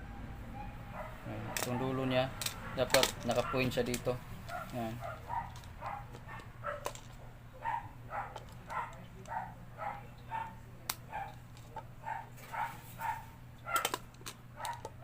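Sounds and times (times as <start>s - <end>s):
steady low hum: 0.0s - 15.0s
dog barking: 0.5s - 3.8s, 4.5s - 11.4s, 12.0s - 14.0s, 14.6s - 15.0s.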